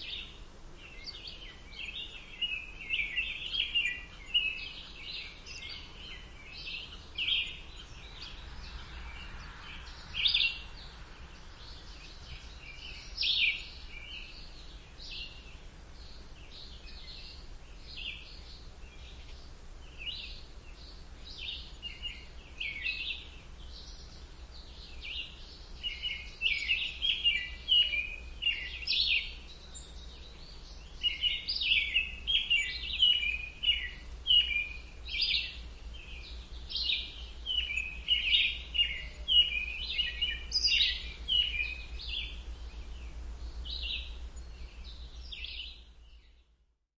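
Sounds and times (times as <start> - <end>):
songbirds chirping: 0.0 - 46.8
faint low rumble: 4.2 - 46.7.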